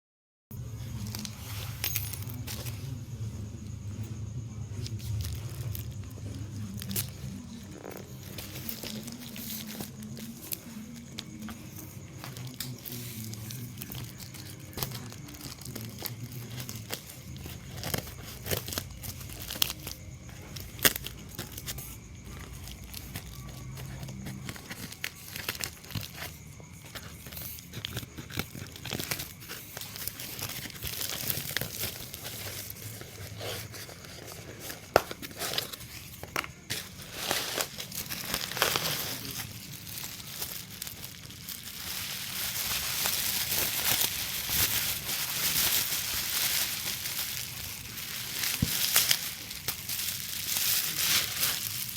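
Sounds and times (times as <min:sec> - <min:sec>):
packaging crinkling and rustling: 0:00.8 - 0:03.8, 0:04.6 - 0:51.9.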